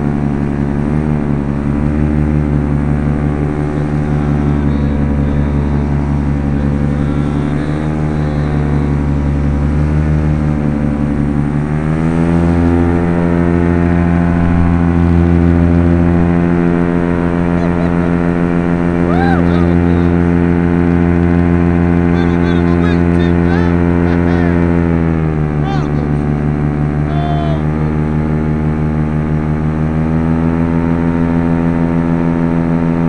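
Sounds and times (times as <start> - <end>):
paramotor engine and propeller: 0.0 - 33.0.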